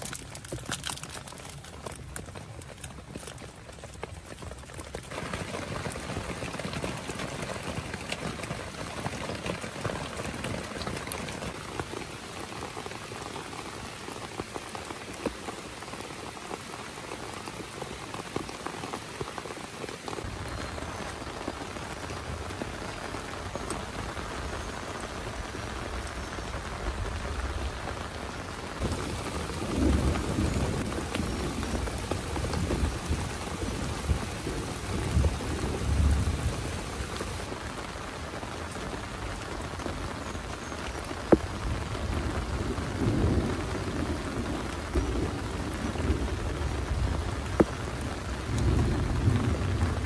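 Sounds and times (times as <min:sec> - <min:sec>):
heavy rain on a tent: 0:00.0 - 0:50.0.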